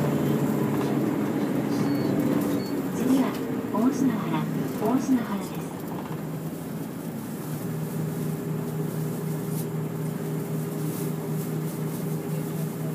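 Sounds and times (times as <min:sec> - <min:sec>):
bus engine humming: 0:00.0 - 0:12.9.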